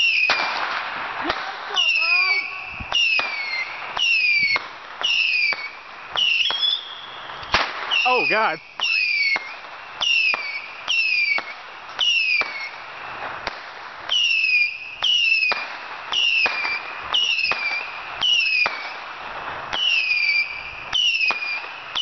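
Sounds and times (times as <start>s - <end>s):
whistling firework: 0.0s - 22.0s.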